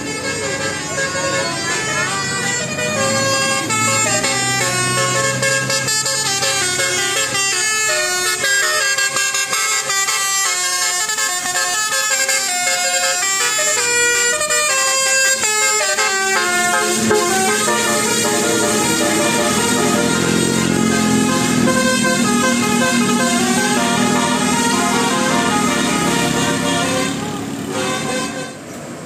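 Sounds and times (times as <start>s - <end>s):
vehicle horn playing a melody: 0.0s - 28.6s.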